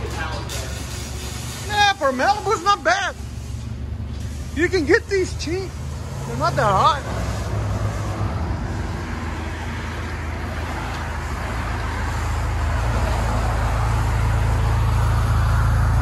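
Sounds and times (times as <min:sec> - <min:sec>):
car engine idling drone: 0:00.0 - 0:16.0.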